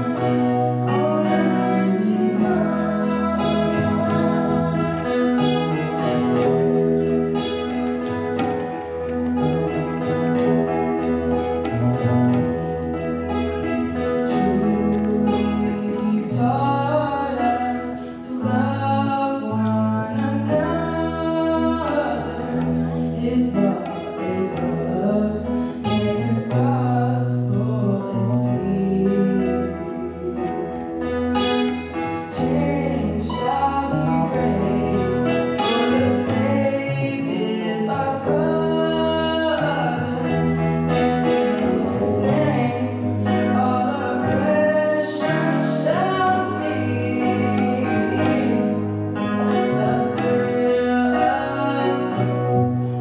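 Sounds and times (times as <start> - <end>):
woman singing into a microphone: 0.0 - 10.7, 14.2 - 53.0
electronic keyboard accompaniment: 0.0 - 53.0.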